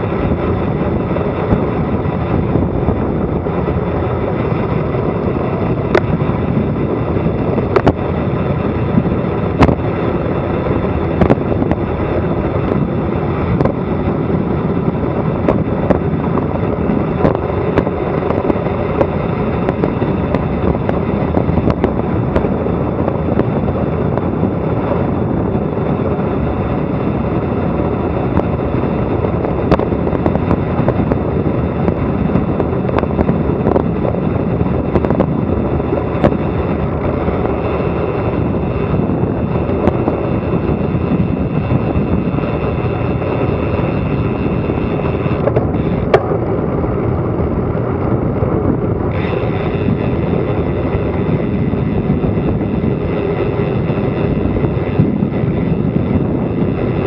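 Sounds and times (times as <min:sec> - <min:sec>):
bicycle knocks and rattles: 0:00.0 - 0:47.0
wind rushing over microphone: 0:00.0 - 0:57.0.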